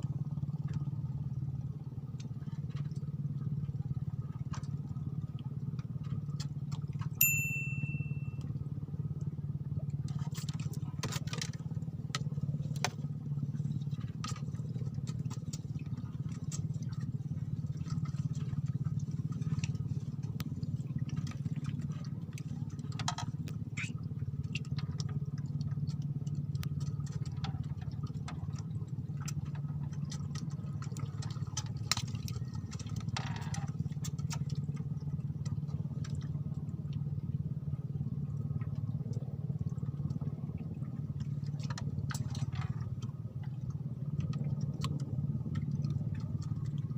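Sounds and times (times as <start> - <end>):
small engine humming: 0.2 - 46.9.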